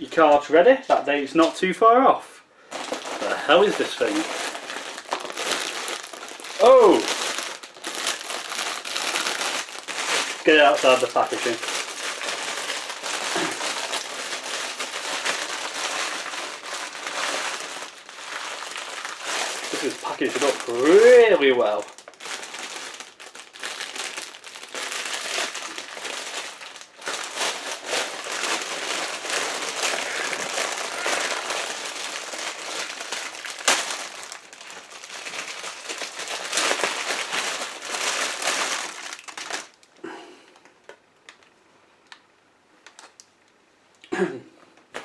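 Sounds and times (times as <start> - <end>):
plastic packaging crinkling: 2.6 - 43.4.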